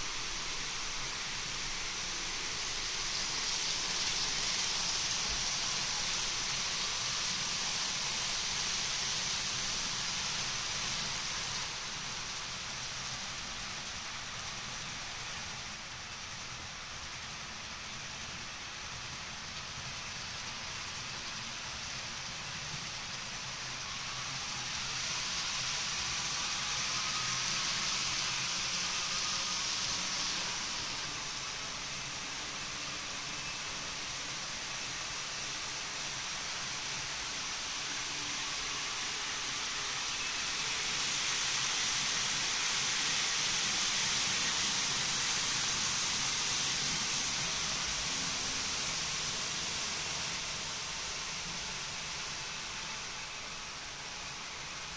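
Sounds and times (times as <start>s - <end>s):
model train rolling and motor whir: 0.0s - 54.9s.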